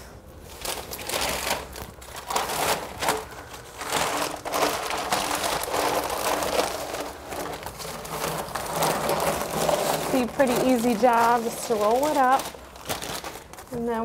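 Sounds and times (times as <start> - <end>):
newspaper rustling and crinkling: 0.4 - 14.0.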